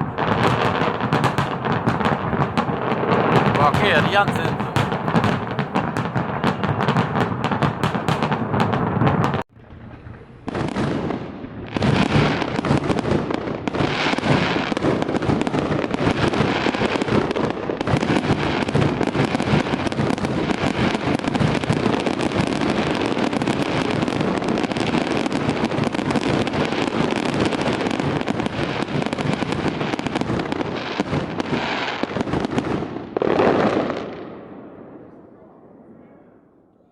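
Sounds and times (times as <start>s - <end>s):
firecrackers cracking: 0.0s - 34.2s
continuous firecracker crackle: 0.0s - 36.4s.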